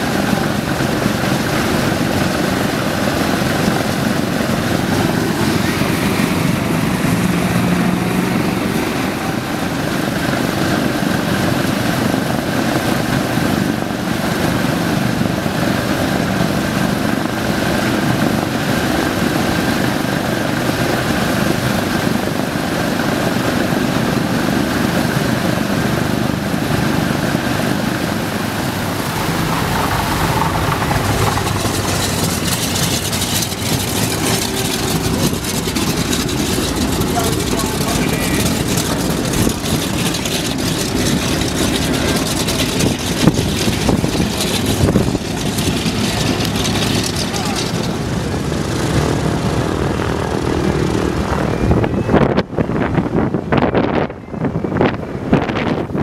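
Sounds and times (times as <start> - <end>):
propeller aircraft engines running: 0.0 - 56.0.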